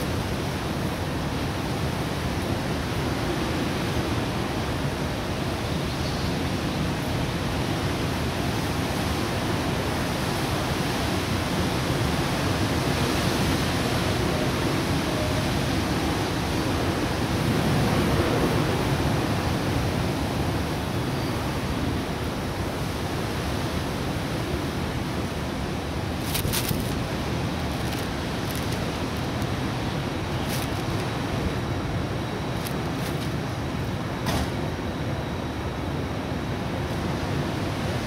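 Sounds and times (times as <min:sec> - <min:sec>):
strong wind blowing: 0:00.0 - 0:38.0.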